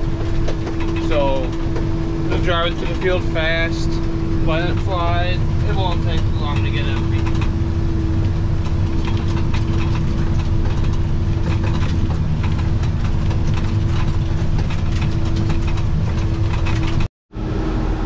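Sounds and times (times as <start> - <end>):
tractor engine rumble: 0.0 - 17.1
steady whine: 0.0 - 18.0.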